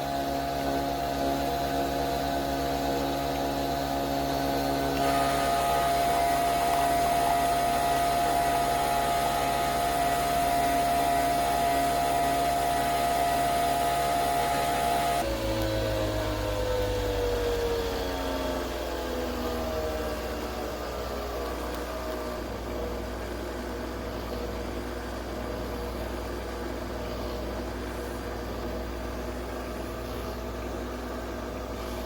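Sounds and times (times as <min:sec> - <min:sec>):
coffee machine motor whirring: 0:00.0 - 0:32.0.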